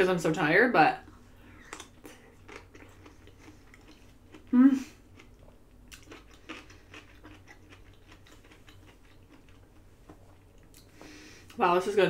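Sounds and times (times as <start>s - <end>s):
faint low room hum: 0.0s - 12.0s
person chewing food: 1.0s - 11.6s.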